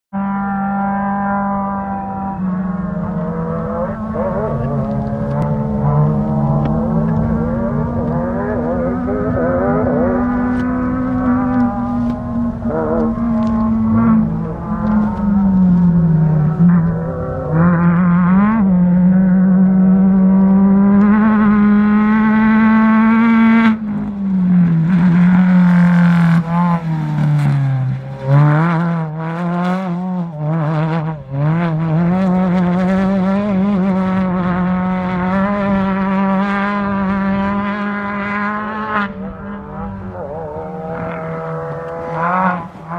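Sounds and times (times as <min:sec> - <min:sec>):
buggy engine revving hard: 0:00.1 - 0:42.9.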